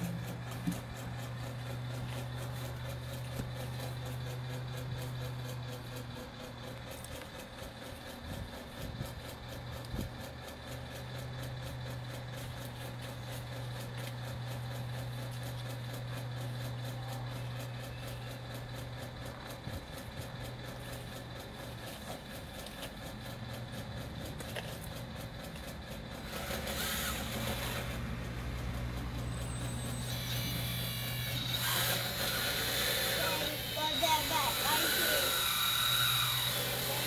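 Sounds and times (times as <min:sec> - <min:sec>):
toy bulldozer motor humming: 0:00.0 - 0:37.0.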